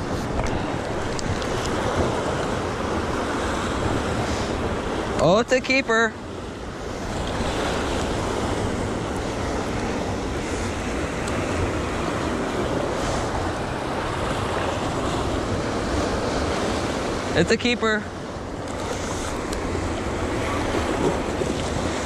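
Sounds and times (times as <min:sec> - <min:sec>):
surf against rocks: 0:00.0 - 0:22.0.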